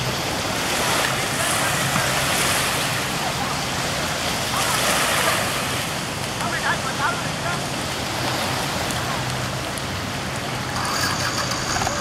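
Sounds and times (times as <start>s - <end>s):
boat engine idling: 0.0s - 12.0s
small waves washing: 0.0s - 12.0s.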